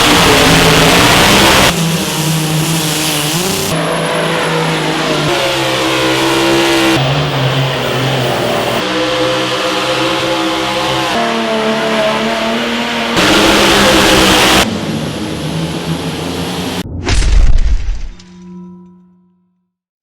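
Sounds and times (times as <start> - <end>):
pulling engines running loudly: 0.0 - 16.9.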